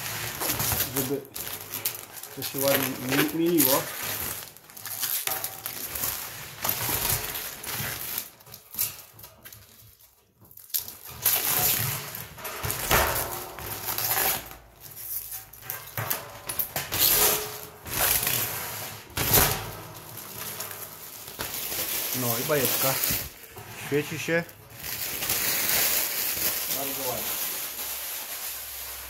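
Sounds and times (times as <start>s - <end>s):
plastic film peeling crackling: 0.0s - 29.0s.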